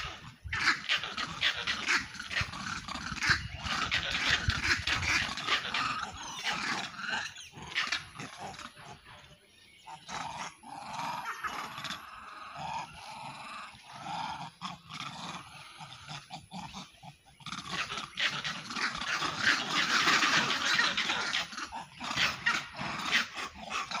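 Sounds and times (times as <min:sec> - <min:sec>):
animal calls: 0:00.0 - 0:24.0.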